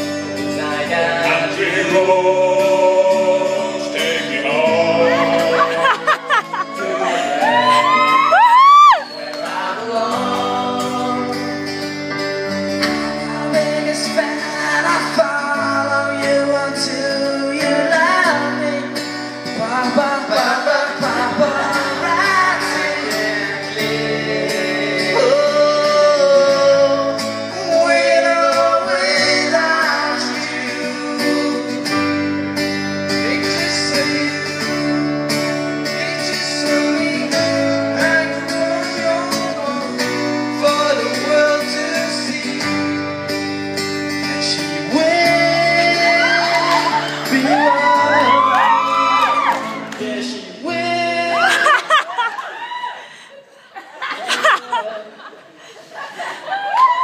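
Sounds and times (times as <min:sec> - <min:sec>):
male vocal group singing: 0:00.0 - 0:08.3, 0:09.0 - 0:11.6, 0:13.2 - 0:32.0, 0:33.2 - 0:43.0, 0:44.4 - 0:52.0
acoustic guitar: 0:00.0 - 0:57.0.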